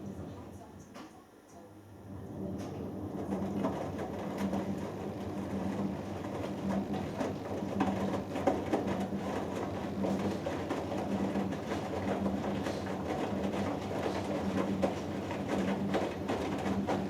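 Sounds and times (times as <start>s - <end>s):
washing machine motor humming: 2.0s - 17.0s
wet laundry clattering and splashing: 3.1s - 17.0s.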